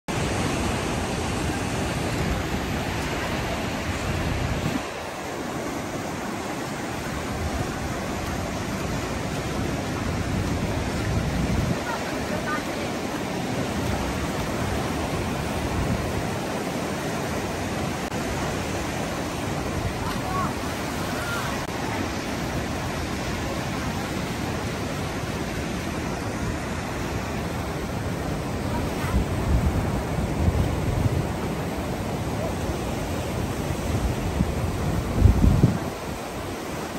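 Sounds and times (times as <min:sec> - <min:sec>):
ocean surf washing around rocks: 0:00.1 - 0:36.9
wind buffeting microphone: 0:00.1 - 0:36.9.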